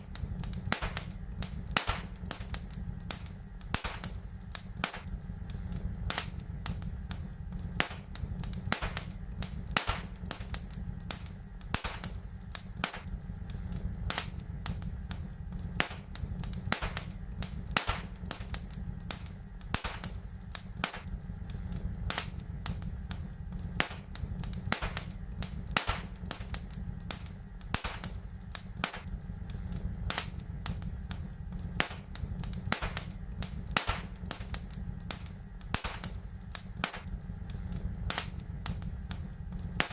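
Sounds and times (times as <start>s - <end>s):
fire crackling and popping: 0.0s - 39.9s
low rumble of burning: 0.0s - 39.9s.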